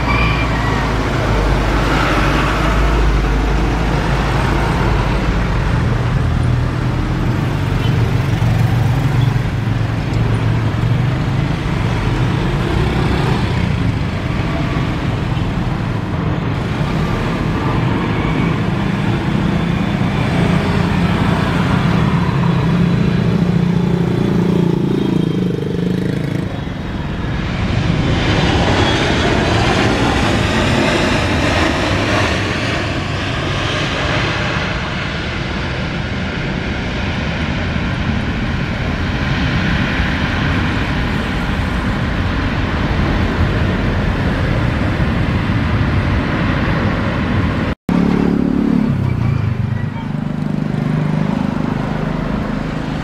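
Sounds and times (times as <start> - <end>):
jet engines rumbling: 0.0 - 53.0.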